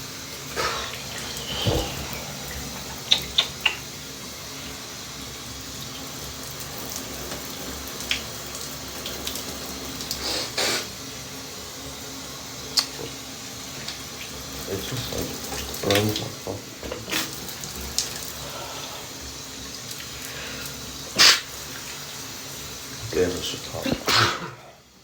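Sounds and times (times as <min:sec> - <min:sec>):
shower water running: 0:00.0 - 0:25.0.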